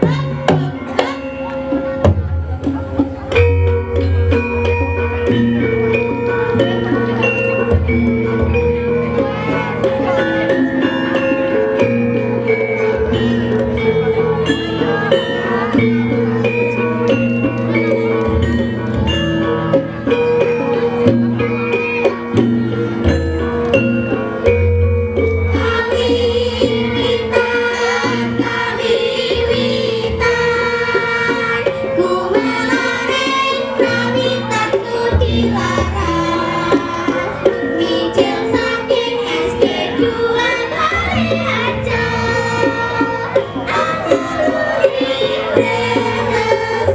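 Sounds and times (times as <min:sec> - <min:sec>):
metallophones ringing a melody: 0:00.0 - 0:46.9
voices singing: 0:00.0 - 0:46.9.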